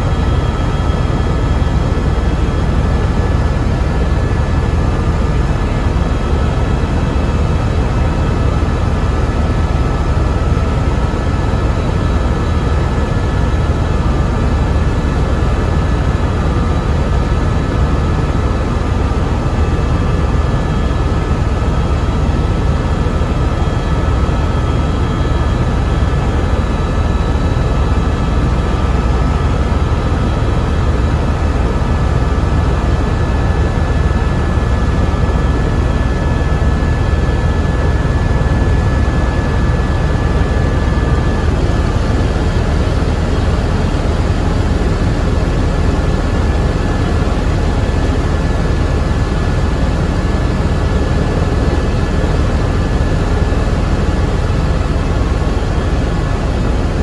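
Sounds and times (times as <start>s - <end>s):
helicopter rotor rumble: 0.0s - 57.0s
thin steady whine: 0.0s - 57.0s.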